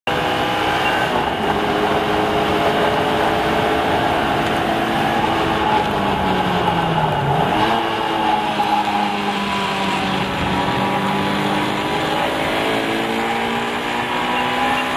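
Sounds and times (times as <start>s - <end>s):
race car engine running: 0.1s - 14.9s.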